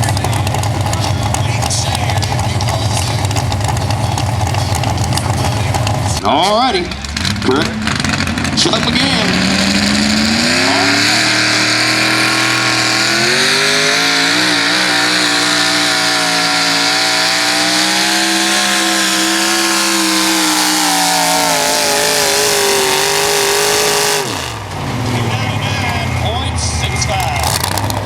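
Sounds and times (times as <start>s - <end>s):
truck engine at full throttle: 0.0s - 28.0s.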